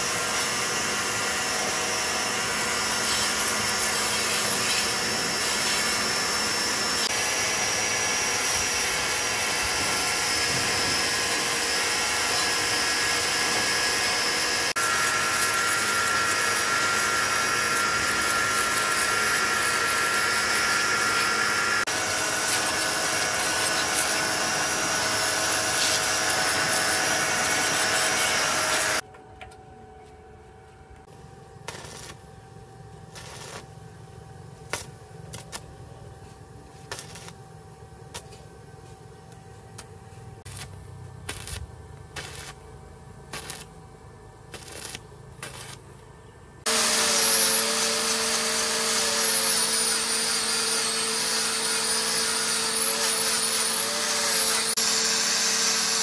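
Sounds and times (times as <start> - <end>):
power tool running: 0.0 - 29.0, 31.0 - 37.5, 39.7 - 43.8, 44.5 - 45.9, 46.6 - 56.0.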